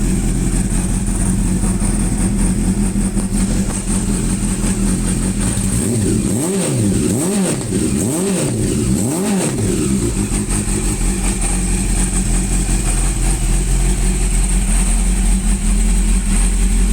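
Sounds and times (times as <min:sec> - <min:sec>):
motorcycle engine idling and revving: 0:00.0 - 0:16.9.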